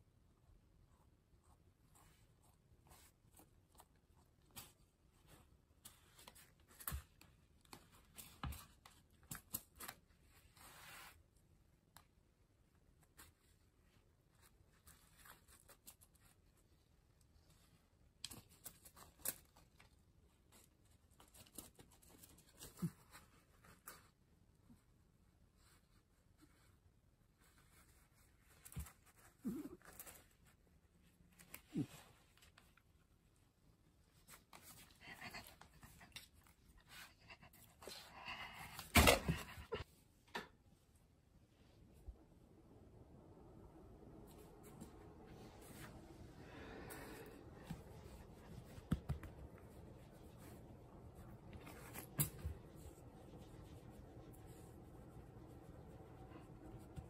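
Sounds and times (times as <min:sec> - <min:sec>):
cat rustling and scratching: 0:00.3 - 0:40.2, 0:43.2 - 0:57.0.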